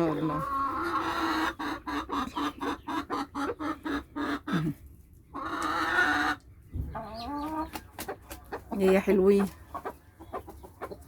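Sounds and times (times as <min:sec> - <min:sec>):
hen clucking: 0:00.0 - 0:11.0.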